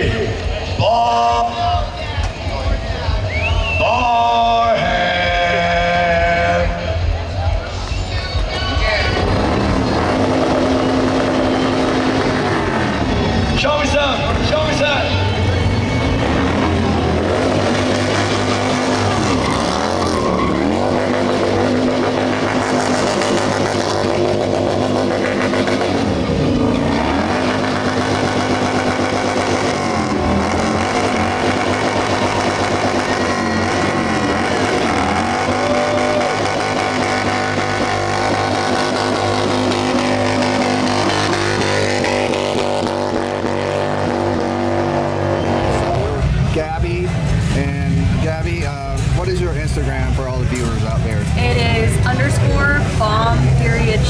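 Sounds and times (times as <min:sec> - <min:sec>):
motorcycle engine revving hard: 0:08.8 - 0:54.0.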